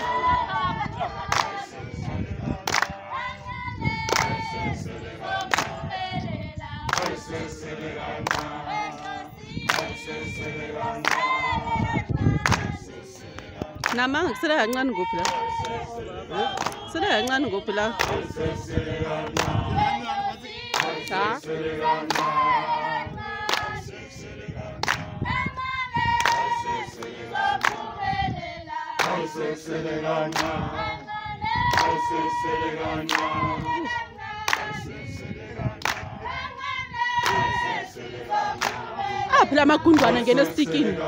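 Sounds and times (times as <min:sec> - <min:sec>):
crowd singing together: 0:00.0 - 0:41.0.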